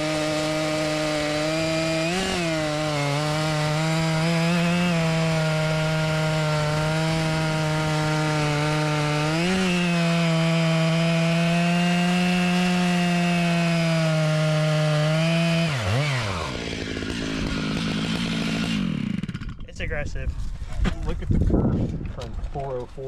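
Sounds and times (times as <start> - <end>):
chainsaw cutting at full throttle: 0.0 - 19.7.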